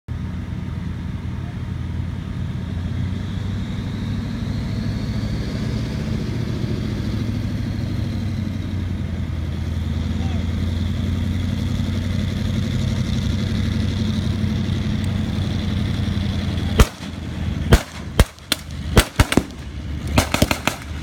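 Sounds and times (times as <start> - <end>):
tank engine droning: 0.1 - 21.0.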